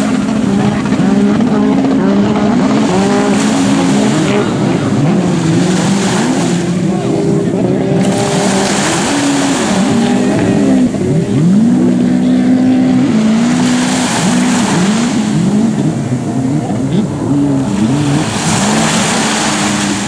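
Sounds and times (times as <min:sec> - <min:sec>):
jet-ski engines revving: 0:00.0 - 0:20.0.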